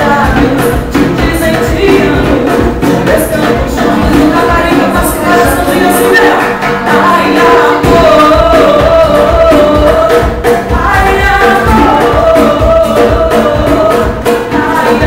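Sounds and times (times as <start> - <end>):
hand drum beat: 0.0 - 15.0
woman singing: 0.0 - 15.0.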